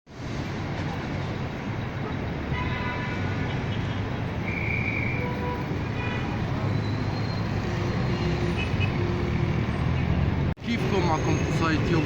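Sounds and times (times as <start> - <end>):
street traffic rumbling: 0.1 - 12.0.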